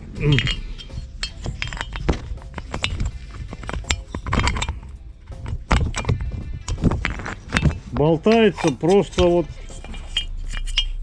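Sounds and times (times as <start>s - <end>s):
piston clinking in cylinder: 0.0s - 11.0s.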